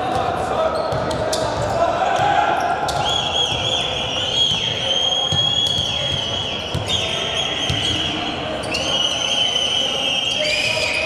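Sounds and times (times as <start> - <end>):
sports hall hum: 0.0 - 11.0.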